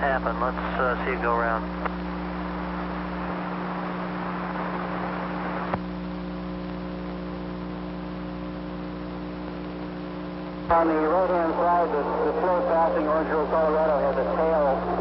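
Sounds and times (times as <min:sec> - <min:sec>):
electrical hum: 0:00.0 - 0:15.0
radio static hiss: 0:00.0 - 0:15.0.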